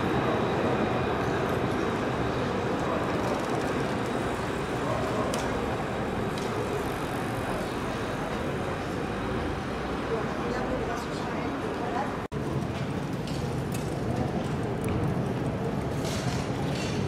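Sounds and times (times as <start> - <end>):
street traffic noise: 0.0 - 17.0
tram running along tracks: 0.0 - 17.0.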